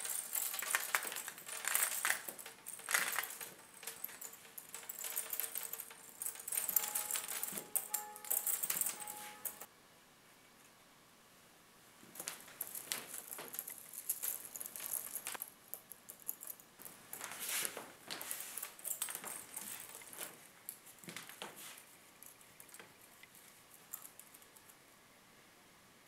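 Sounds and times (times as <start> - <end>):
wooden sticks pattering on table: 0.0 - 9.7, 12.0 - 24.6.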